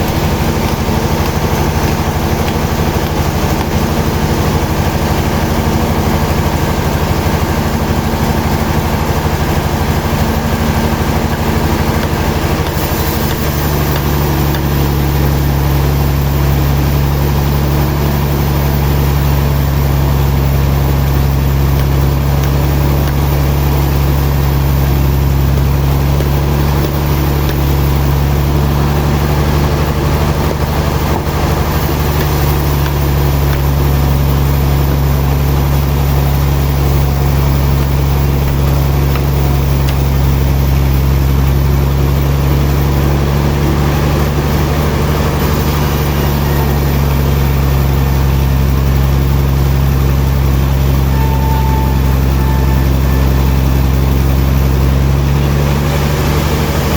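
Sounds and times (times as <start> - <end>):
sawmill machinery humming: 0.0 - 56.9.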